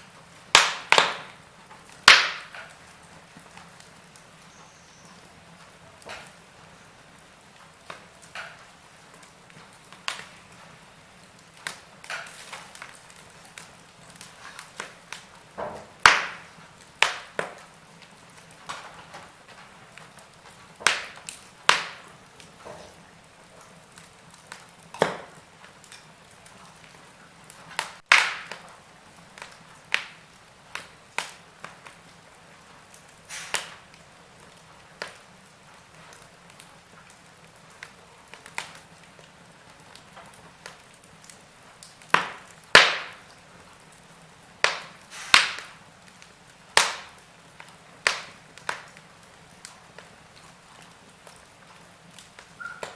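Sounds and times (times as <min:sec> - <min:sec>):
faint steady hiss: 0:00.0 - 0:52.9
wood fire crackling and popping: 0:00.0 - 0:52.9.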